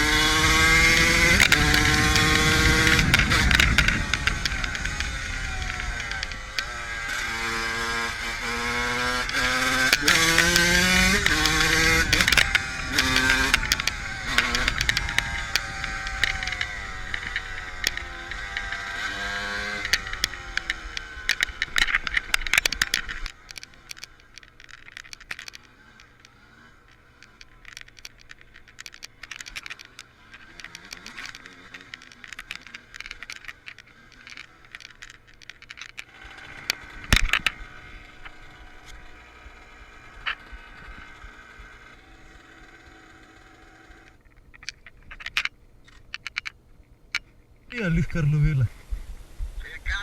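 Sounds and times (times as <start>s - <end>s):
dirt bike engine revving: 0.0s - 44.2s.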